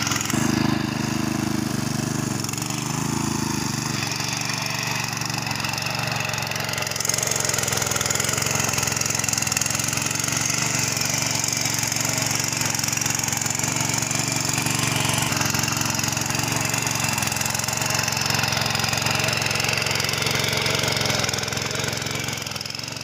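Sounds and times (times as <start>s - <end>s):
small tiller engine running: 0.0s - 23.0s
tines churning muddy soil: 0.0s - 23.0s.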